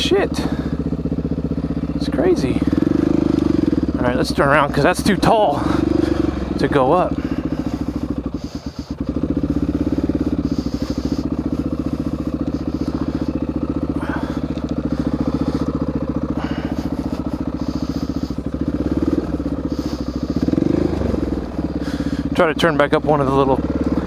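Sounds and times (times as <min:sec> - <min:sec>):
dirt bike engine idling: 0:00.0 - 0:24.0.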